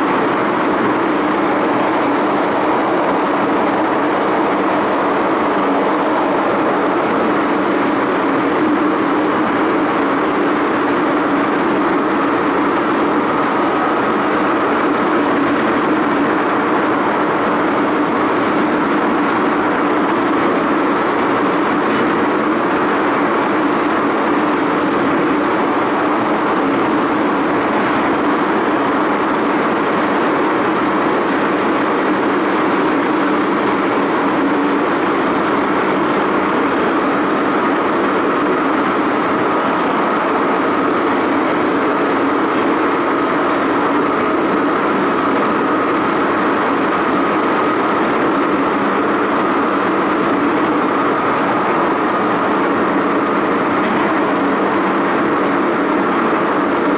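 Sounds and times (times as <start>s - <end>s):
metro train running in tunnel: 0.0s - 56.9s.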